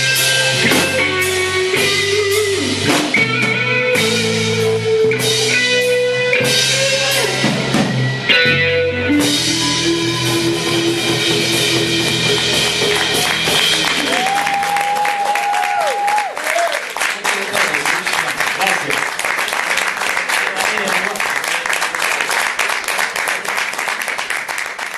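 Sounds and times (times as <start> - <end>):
live rock band: 0.0 - 21.4.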